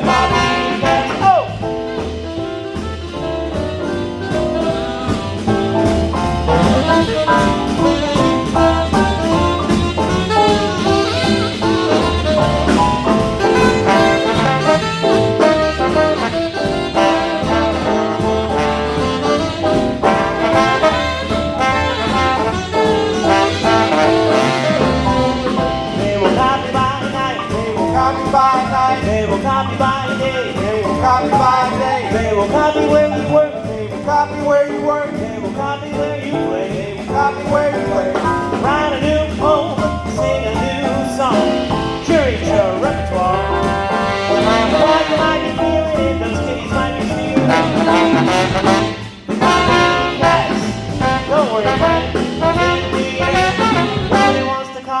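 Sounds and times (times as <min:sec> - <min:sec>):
swing band playing: 0:00.0 - 0:55.0.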